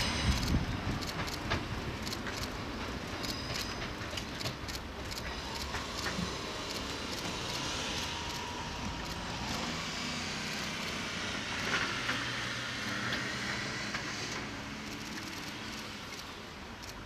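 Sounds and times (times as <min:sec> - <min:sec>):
diesel train engine hum: 0:00.0 - 0:17.0
train wheels rolling: 0:00.0 - 0:17.0.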